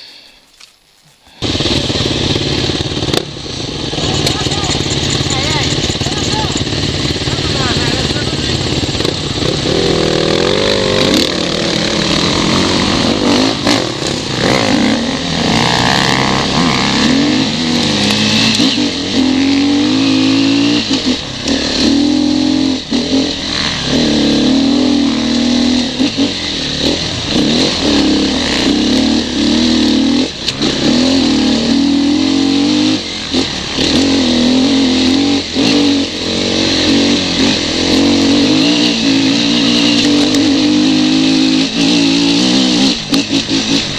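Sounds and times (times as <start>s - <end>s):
motorcycle engine revving: 1.3s - 43.9s.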